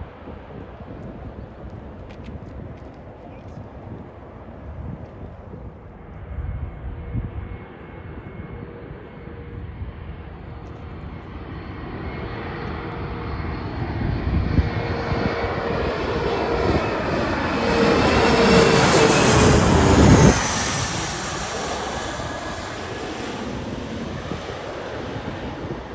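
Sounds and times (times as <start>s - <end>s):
jet airliner engines roaring: 0.0s - 25.9s.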